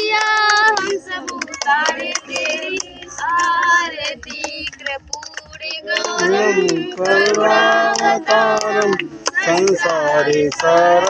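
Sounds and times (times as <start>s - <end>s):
hand clapping: 0.0s - 11.0s
women and children singing: 0.0s - 11.0s.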